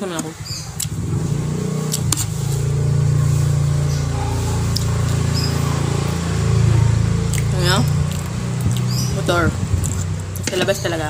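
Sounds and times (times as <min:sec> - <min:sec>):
motorcycle engine droning: 0:00.4 - 0:11.0.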